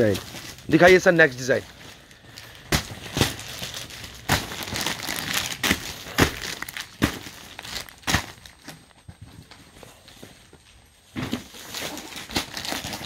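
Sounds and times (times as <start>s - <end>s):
plastic packaging crinkling: 0.0s - 9.1s, 11.5s - 13.0s
sharp plastic crackles: 0.0s - 9.6s, 11.2s - 13.0s.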